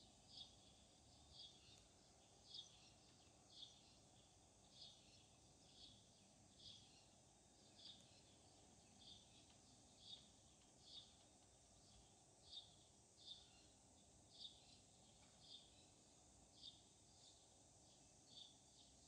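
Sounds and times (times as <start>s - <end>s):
bird chirping: 0.0s - 19.0s
outdoor background hiss: 0.0s - 19.0s.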